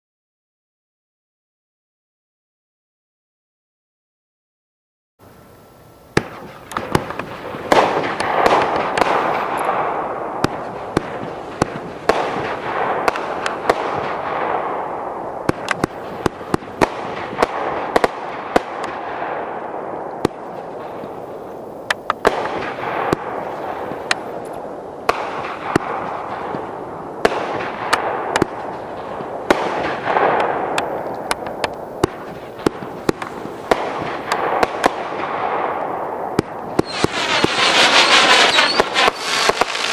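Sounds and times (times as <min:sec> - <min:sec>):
firework shots and aerial breaks: 0:06.2 - 0:39.9.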